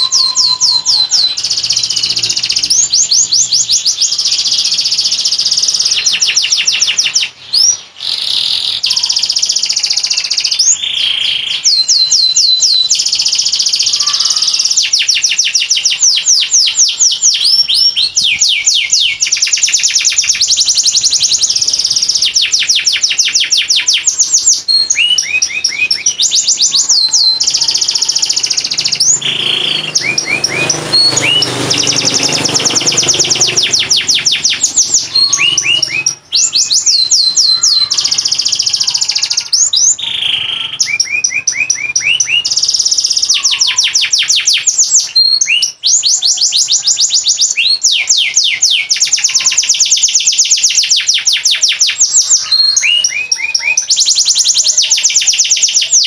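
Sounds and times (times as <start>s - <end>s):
canary singing fast trills: 0.0s - 56.0s.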